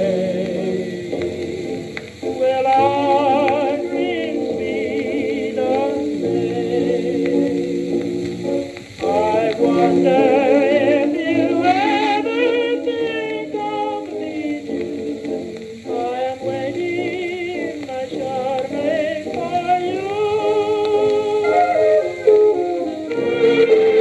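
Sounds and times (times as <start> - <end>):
old dance-band recording: 0.0 - 24.0
record surface hiss: 0.0 - 24.0.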